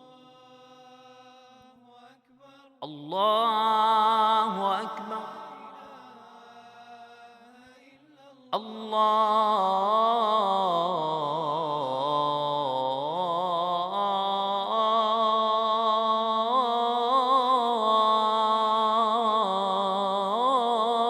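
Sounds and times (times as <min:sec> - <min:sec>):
man chanting melisma: 0:00.0 - 0:21.0.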